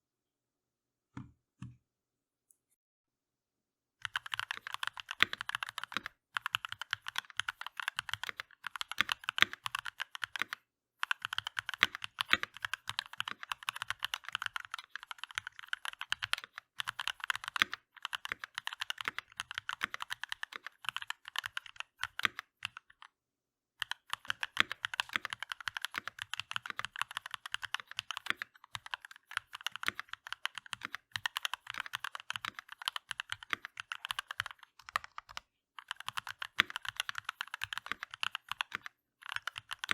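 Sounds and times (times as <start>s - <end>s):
mechanical keyboard typing: 4.0s - 23.1s, 23.8s - 39.9s.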